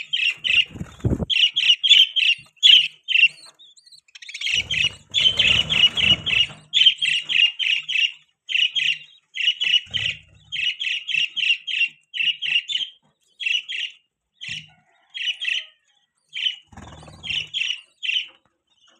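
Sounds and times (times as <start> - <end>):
budgerigar chirping: 0.0 - 18.9.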